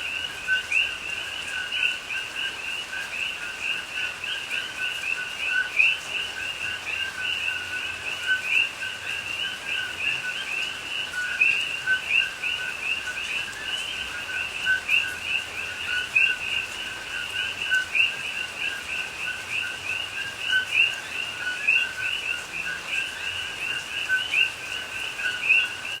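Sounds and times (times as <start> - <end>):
chorus of frogs calling: 0.0 - 26.0.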